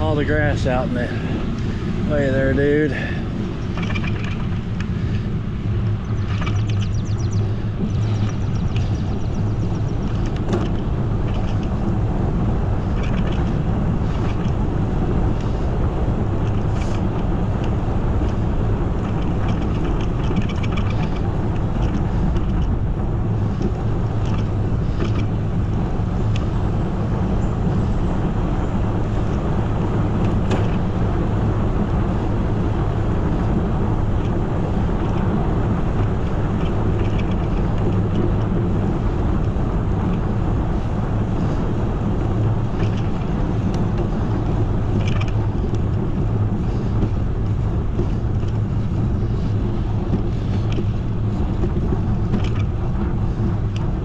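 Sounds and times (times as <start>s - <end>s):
bicycle road noise: 0.0s - 54.0s
faint clicks and rattles: 0.0s - 54.0s
wind rumble: 0.0s - 54.0s.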